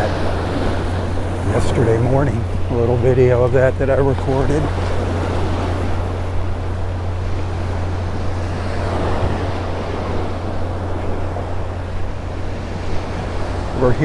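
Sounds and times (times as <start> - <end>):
waves breaking on beach: 0.0 - 14.0
wind rumble on microphone: 0.0 - 14.0.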